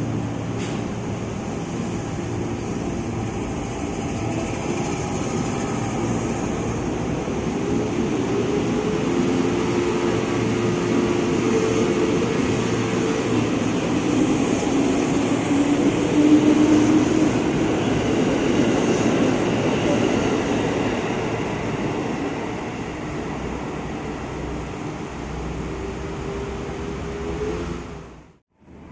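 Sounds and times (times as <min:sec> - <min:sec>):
train passing: 0:00.0 - 0:28.9.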